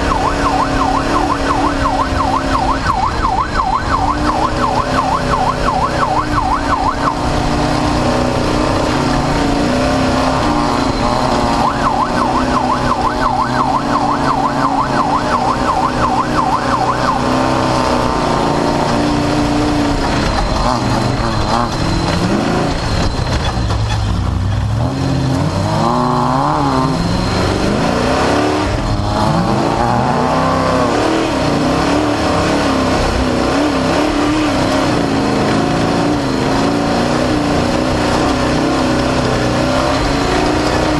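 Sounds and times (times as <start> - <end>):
warbling siren-like alarm tone: 0.0 - 23.8, 24.8 - 40.9
race vehicle engine revving: 0.0 - 40.9.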